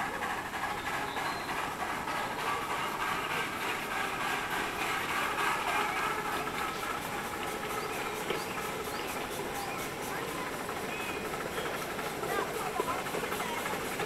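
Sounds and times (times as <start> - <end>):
miniature steam locomotive running: 0.0 - 14.0.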